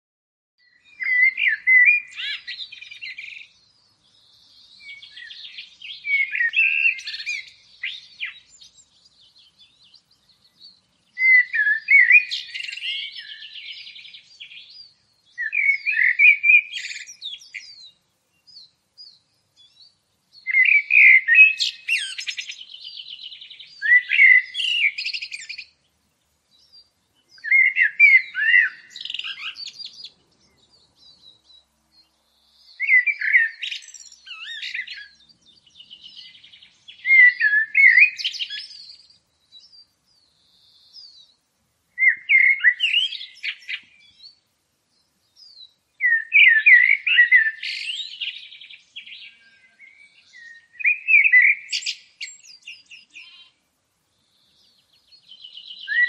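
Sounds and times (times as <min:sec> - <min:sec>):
songbird singing: 0:00.6 - 0:56.0.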